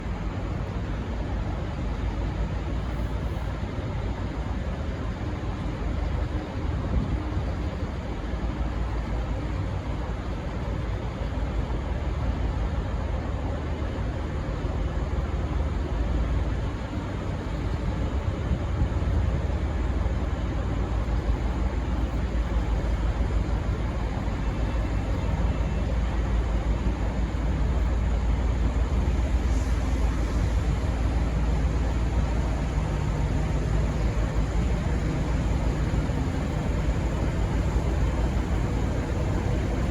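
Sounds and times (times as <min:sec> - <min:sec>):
diesel locomotive rumble: 0:00.0 - 0:39.9.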